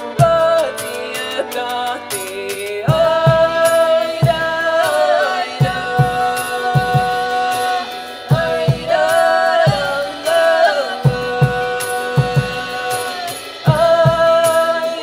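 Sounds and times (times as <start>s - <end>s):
low drum beats: 0.0s - 15.0s.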